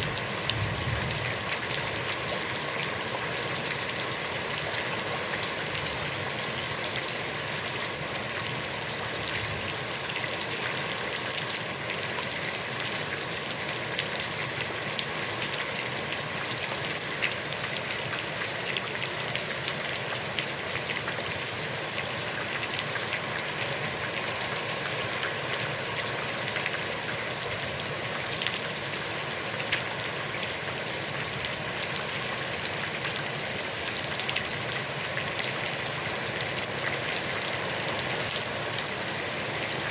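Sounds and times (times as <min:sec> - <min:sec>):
heavy rain on pond water: 0:00.0 - 0:39.9.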